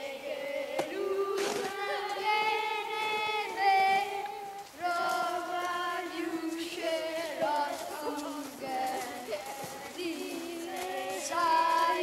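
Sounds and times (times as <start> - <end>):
children singing: 0.0 - 12.0.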